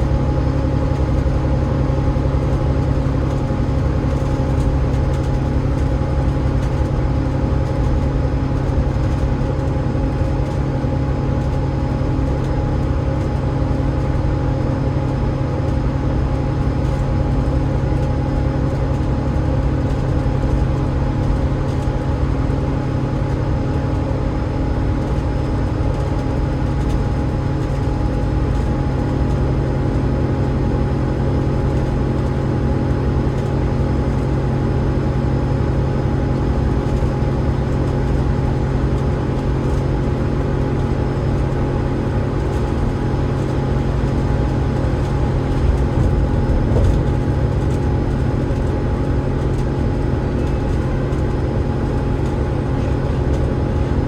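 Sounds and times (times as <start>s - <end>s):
bus engine droning steadily: 0.0s - 54.0s.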